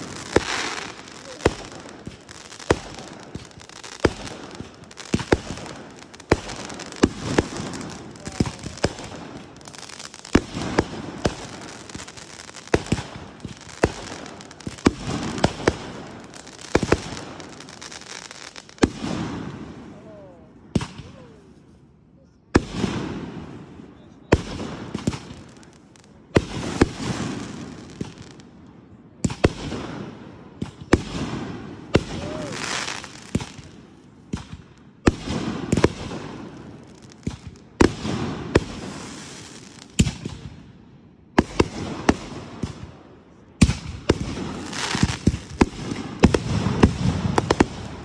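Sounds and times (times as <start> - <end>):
fireworks bangs: 0.0 - 20.1, 22.6 - 40.7, 41.3 - 48.0
fireworks crackling: 0.0 - 20.1, 22.6 - 40.6, 41.3 - 48.0.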